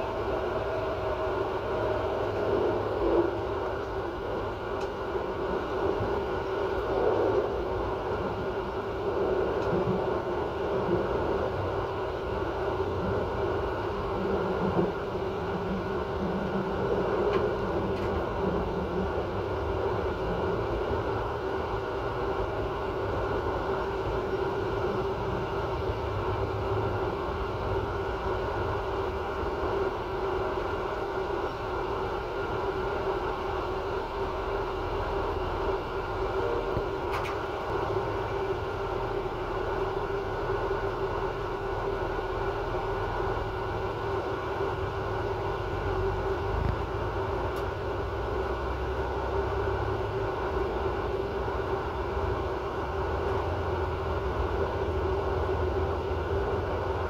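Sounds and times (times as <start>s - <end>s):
steady hum: 0.0s - 57.0s
train rumbling along: 0.0s - 57.0s.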